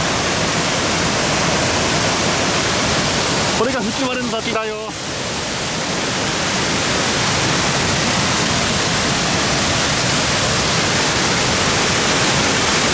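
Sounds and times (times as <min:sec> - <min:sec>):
waterfall rushing: 0:00.0 - 0:12.9.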